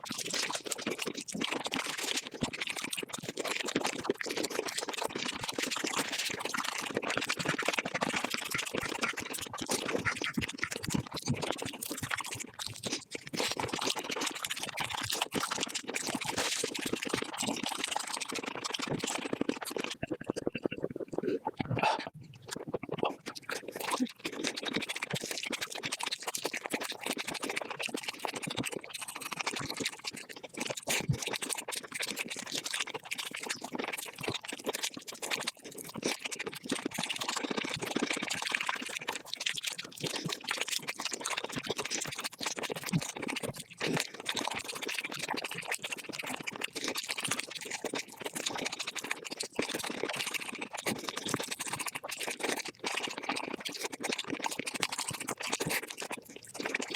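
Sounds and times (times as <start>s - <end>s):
sped-up crunching and chewing: 0.0s - 56.9s.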